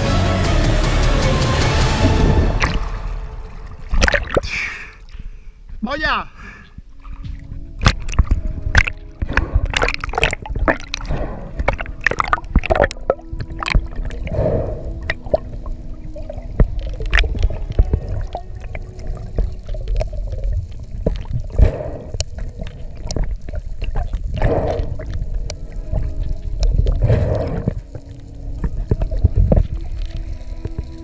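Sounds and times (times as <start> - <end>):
water splashing and sloshing: 1.7 - 5.8, 6.7 - 31.0
underwater clicks: 3.9 - 5.2, 6.7 - 31.0.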